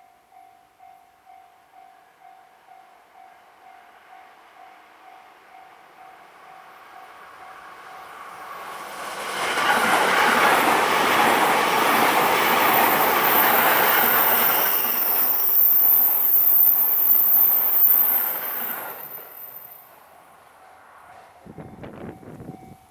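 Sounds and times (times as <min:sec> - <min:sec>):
electric train passing at speed: 0:01.7 - 0:22.9
train wheels on rails: 0:03.2 - 0:22.9.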